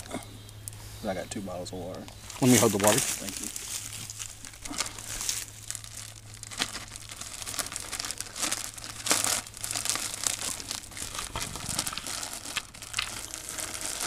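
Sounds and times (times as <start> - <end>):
plastic bag crinkling: 2.2 - 14.0.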